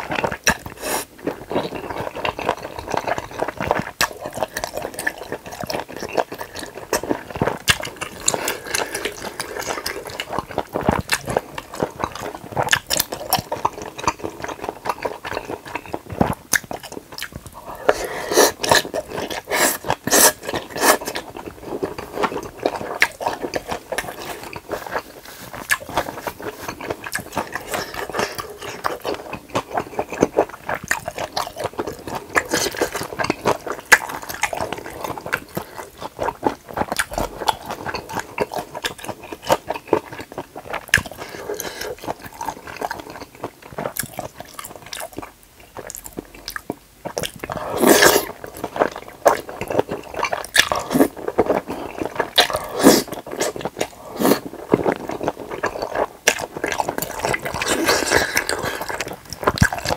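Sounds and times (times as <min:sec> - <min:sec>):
wet squishy chewing: 0:00.0 - 0:59.9.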